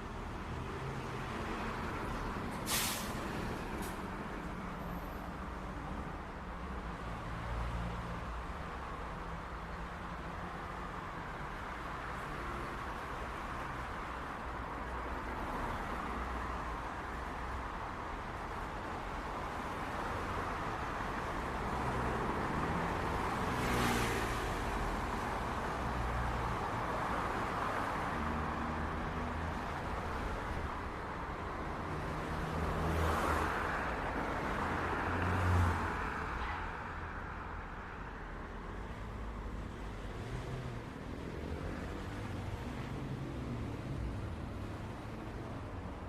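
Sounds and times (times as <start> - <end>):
cars passing by: 0.0 - 46.0
road noise and engine hum: 0.0 - 46.0.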